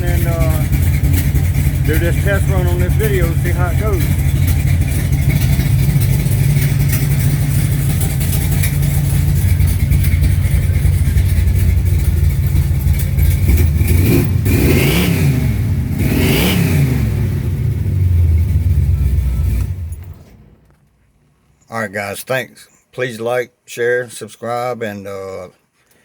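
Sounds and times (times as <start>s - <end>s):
car engine idling and revving: 0.0s - 20.8s.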